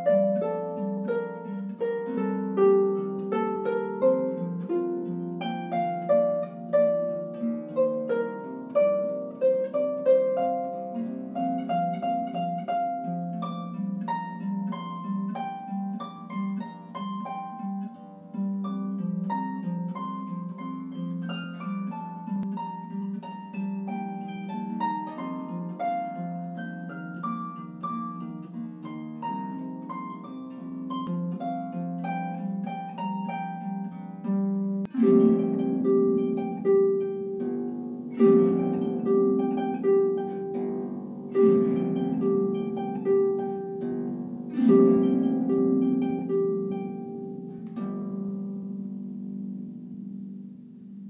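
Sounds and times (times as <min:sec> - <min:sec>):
harp playing plucked melody: 0:00.0 - 0:51.0.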